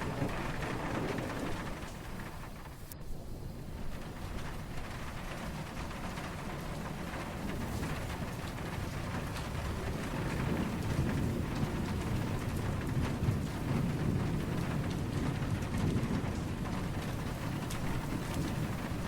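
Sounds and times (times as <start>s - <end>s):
distant thunder rumbling: 0.0s - 19.0s
steady rain falling: 0.0s - 19.0s.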